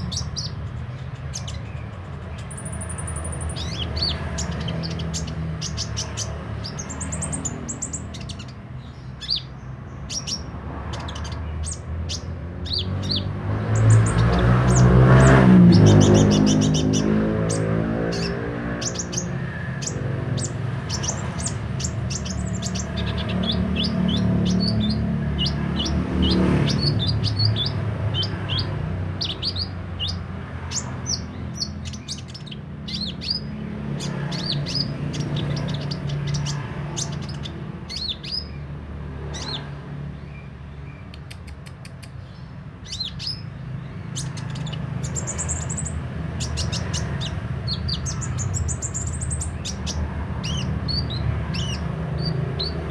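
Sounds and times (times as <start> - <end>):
bird singing high chirps: 0.0 - 38.7, 39.3 - 52.9.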